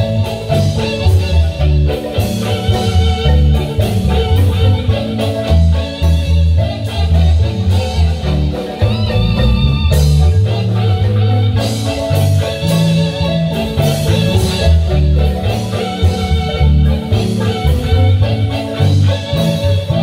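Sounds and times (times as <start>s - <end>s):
marimba band playing dance tune: 0.0s - 20.0s
steady bass line: 0.0s - 20.0s.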